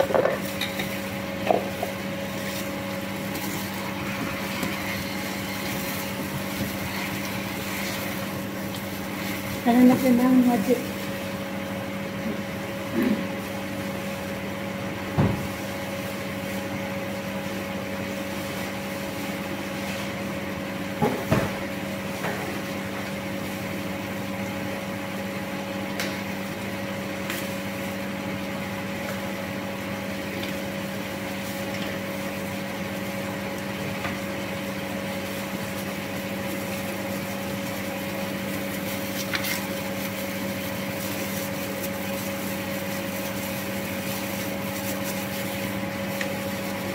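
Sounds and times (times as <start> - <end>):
kitchen appliance humming: 0.0 - 46.9.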